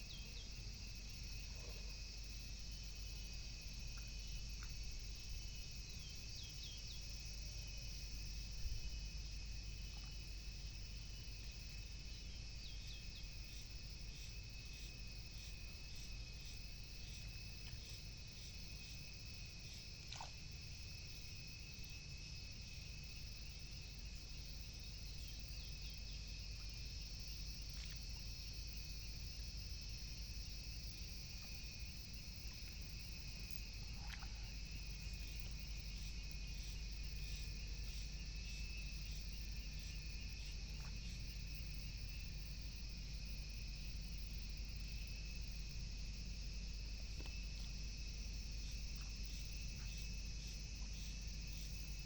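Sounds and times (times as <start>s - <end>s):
low steady rumble: 0.0s - 52.0s.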